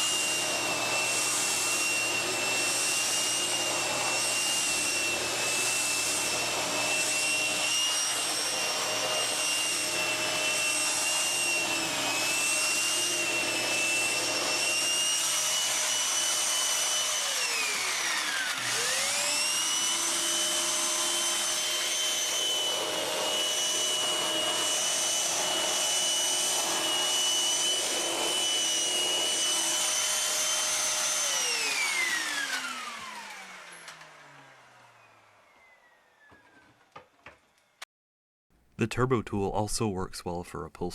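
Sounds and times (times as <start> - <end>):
vacuum motor winding down: 0.0 - 36.5
vacuum cleaner whining: 0.0 - 37.7.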